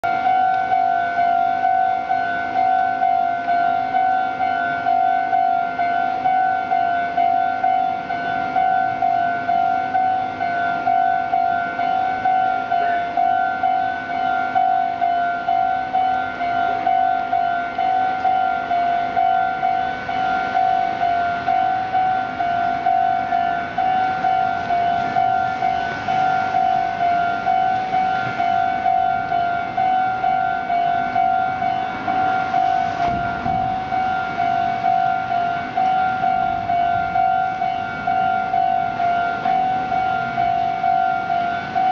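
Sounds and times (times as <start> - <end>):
level-crossing warning bell ringing: 0.0 - 41.9.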